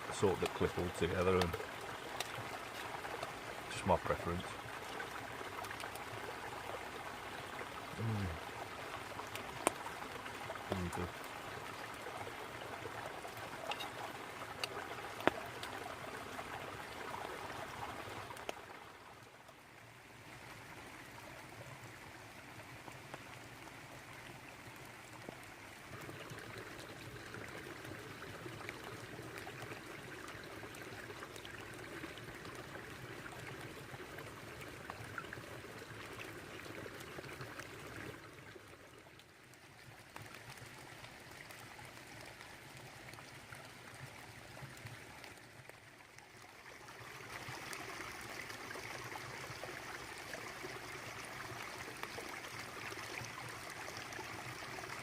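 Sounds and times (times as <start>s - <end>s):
babbling brook water: 0.0s - 55.0s.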